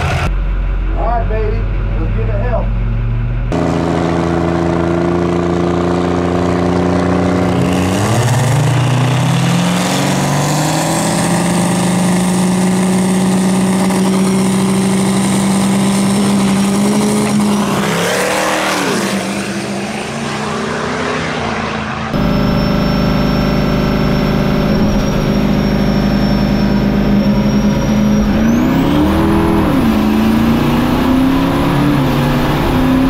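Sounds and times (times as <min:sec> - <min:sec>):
diesel truck engine accelerating: 0:00.0 - 0:33.0.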